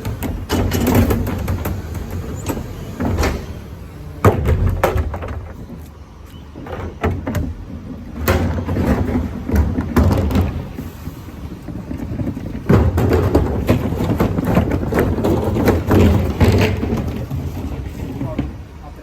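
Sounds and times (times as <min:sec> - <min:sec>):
sharp bangs and knocks: 0:00.0 - 0:05.8, 0:06.5 - 0:18.6
garbage truck engine rumble: 0:00.0 - 0:19.0.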